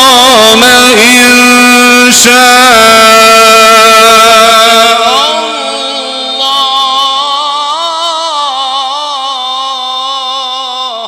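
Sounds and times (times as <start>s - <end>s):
man chanting melismatic recitation: 0.0s - 11.0s.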